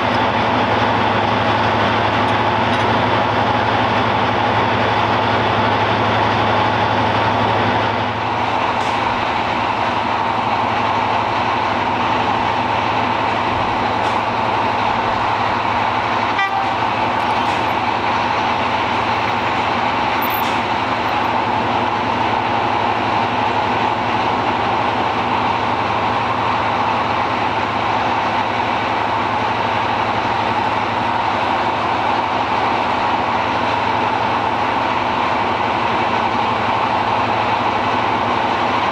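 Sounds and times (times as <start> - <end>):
diesel engine idling thrum: 0.0 - 38.9
steady engine drone: 0.0 - 38.9.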